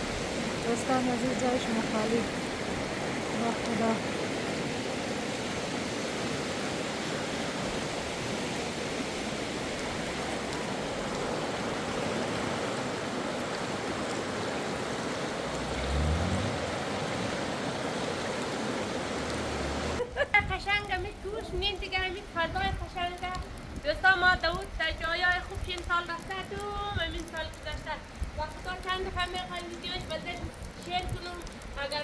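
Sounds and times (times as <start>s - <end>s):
running stream water: 0.0s - 32.0s.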